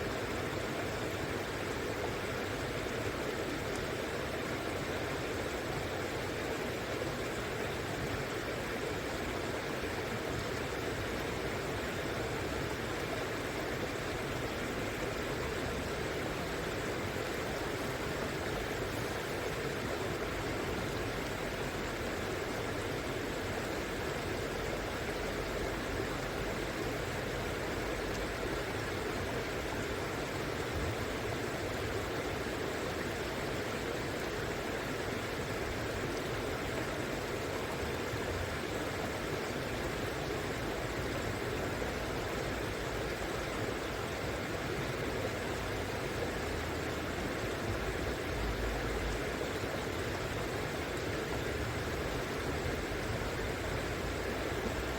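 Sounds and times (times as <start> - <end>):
river water flowing: 0.0 - 54.9.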